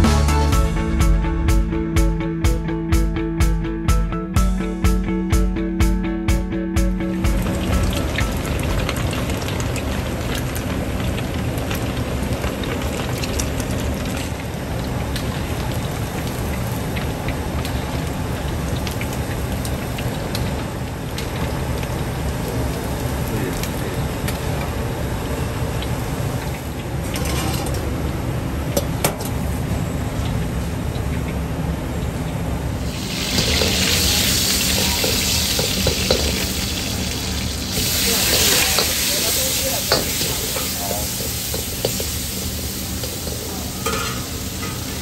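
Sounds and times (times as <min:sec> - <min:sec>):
bright sizzle of hot oil: 0:07.2 - 0:45.0
food deep-frying in oil: 0:07.3 - 0:45.0.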